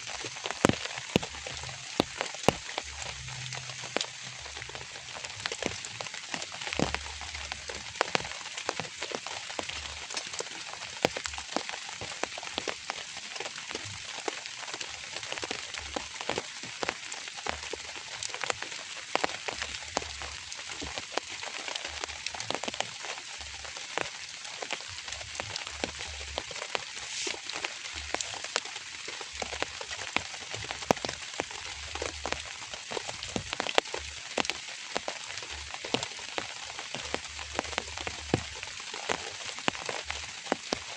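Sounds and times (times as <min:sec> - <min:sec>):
raindrops ticking: 0:00.0 - 0:40.9.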